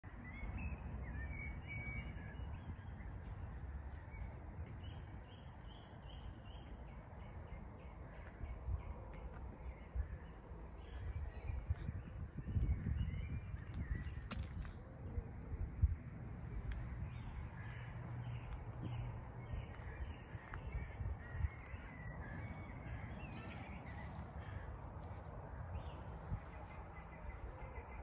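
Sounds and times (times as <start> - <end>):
small birds chirping and singing: 0.1 - 28.0.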